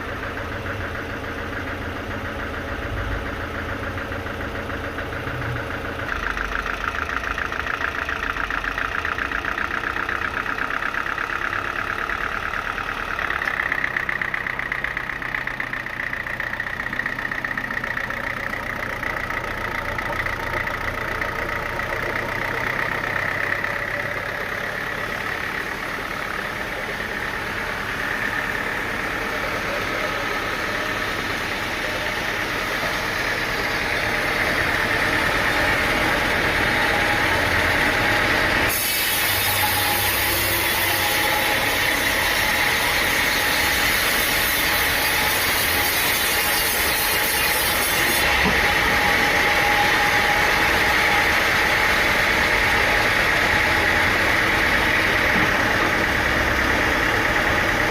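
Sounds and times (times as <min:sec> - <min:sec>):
high machine whine: 0:00.0 - 0:57.9
sawmill motor rumble: 0:00.0 - 0:57.9.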